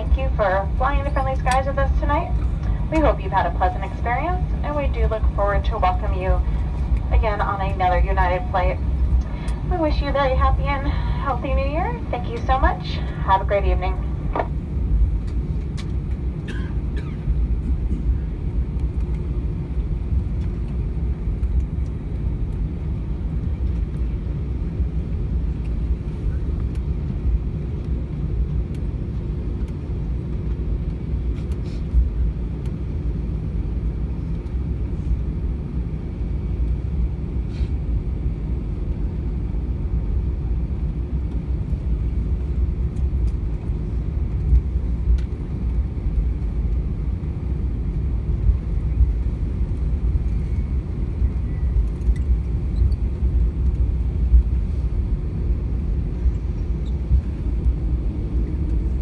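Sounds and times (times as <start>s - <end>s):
airplane cabin rumble while taxiing: 0.0s - 59.0s.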